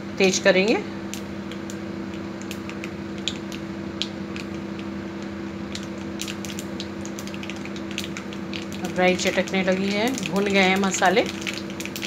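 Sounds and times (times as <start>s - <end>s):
mustard seeds popping: 1.1s - 12.0s
spices sizzling in hot oil: 1.1s - 12.0s.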